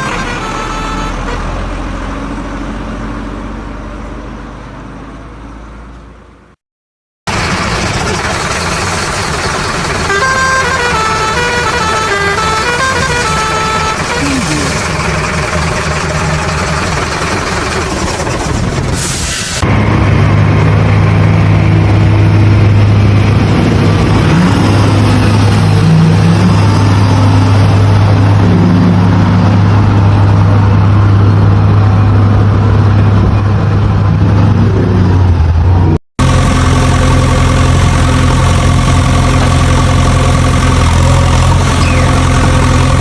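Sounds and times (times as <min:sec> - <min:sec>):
steady engine sound: 0:07.3 - 0:43.0
vehicle engine humming: 0:07.3 - 0:43.0.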